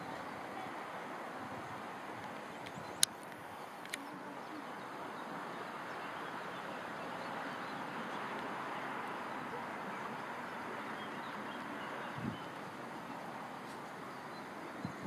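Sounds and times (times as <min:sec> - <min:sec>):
boat lift travelling on rails: 0:00.0 - 0:15.0.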